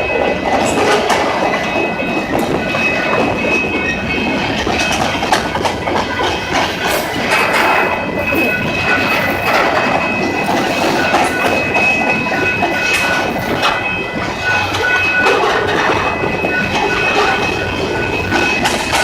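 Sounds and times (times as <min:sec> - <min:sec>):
train wheels clattering over rails: 0:00.0 - 0:19.0.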